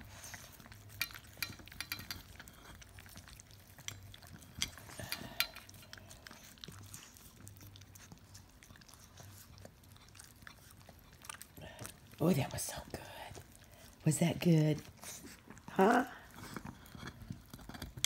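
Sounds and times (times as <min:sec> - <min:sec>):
dog licking a pan: 0:00.0 - 0:18.0.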